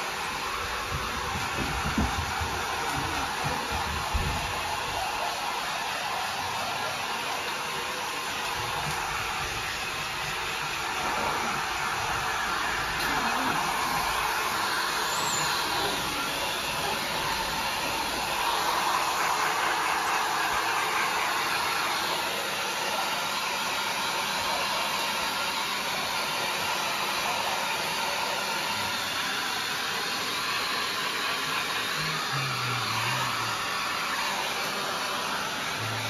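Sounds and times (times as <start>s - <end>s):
hair dryer blowing: 0.0s - 36.0s.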